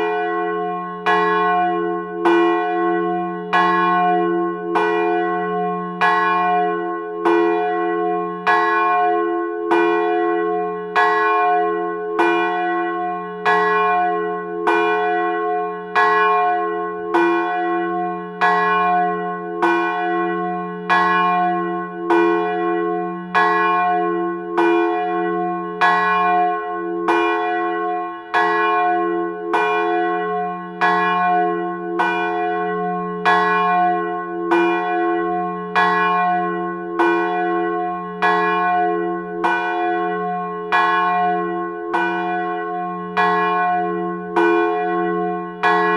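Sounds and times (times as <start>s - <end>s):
church bell tolling: 0.0s - 45.9s.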